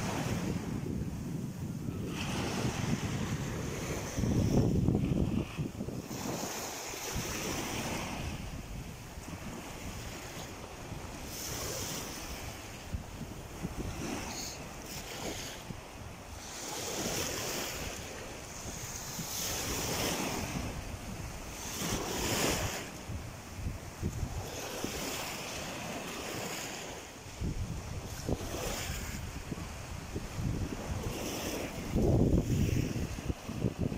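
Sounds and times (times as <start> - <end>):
small waves breaking on beach: 0.0 - 33.9
wind buffeting microphone: 0.0 - 33.9.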